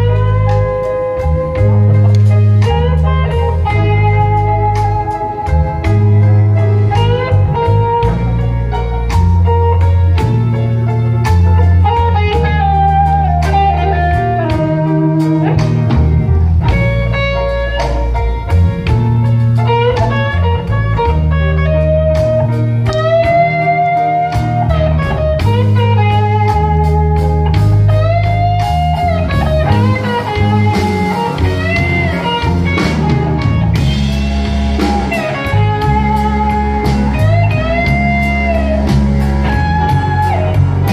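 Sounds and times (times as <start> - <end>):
bass line: 0.0 - 40.9
drums: 0.0 - 40.9
electric guitar lead: 0.0 - 40.9.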